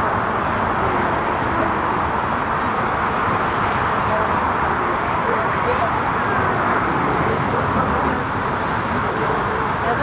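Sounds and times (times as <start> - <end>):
jet engines rushing: 0.0 - 10.0.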